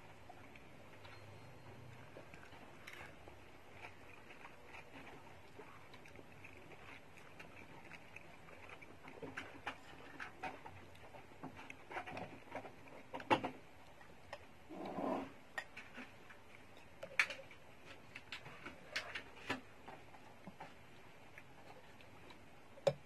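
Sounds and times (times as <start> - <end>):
eating noise: 1.9 - 23.0.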